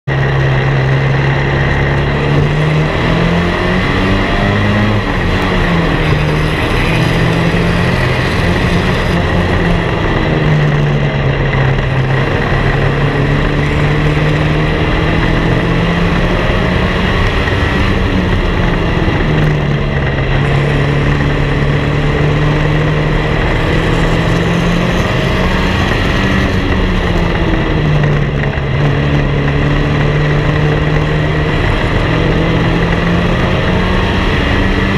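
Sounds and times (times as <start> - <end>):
other race cars: 0.0 - 34.9
race car engine at full throttle: 0.0 - 34.9
steady high whine: 0.1 - 34.9.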